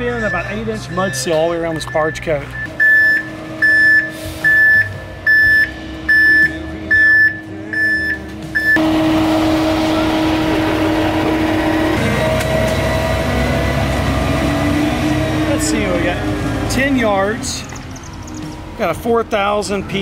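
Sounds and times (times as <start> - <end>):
reversing alarm beeping: 0.0 - 16.6
diesel engine running: 1.6 - 20.0.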